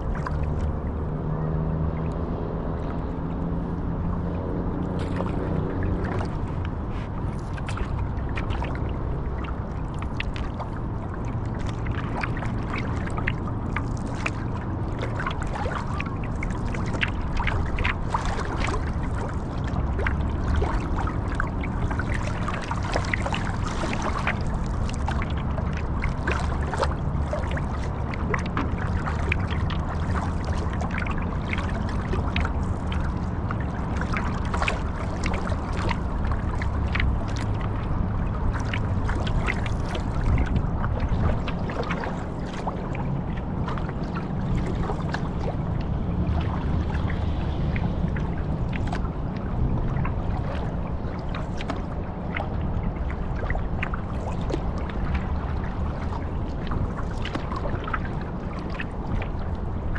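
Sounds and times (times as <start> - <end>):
low rumble: 0.0 - 59.9
water splashing from paddling: 0.0 - 59.9.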